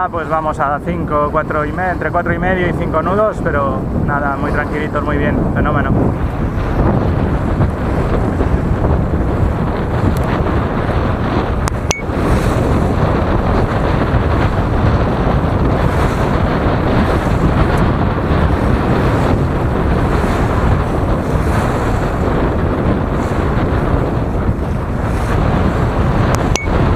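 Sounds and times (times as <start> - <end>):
water rushing along hull: 0.0 - 26.9
wind buffeting microphone: 0.0 - 26.9.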